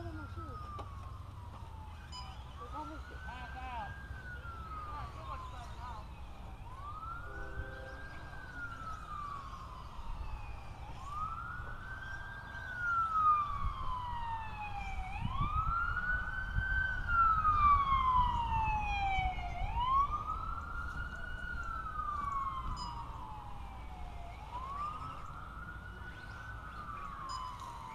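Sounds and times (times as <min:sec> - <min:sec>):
ambulance siren wailing: 0:00.0 - 0:27.9.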